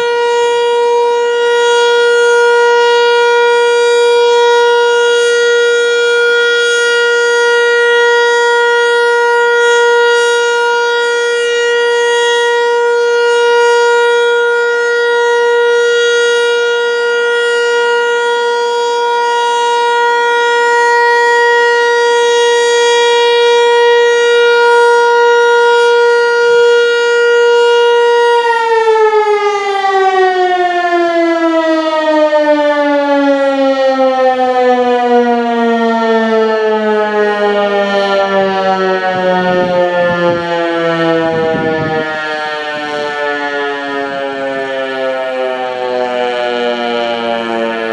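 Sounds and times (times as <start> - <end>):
warning siren winding down: 0.0 - 47.9.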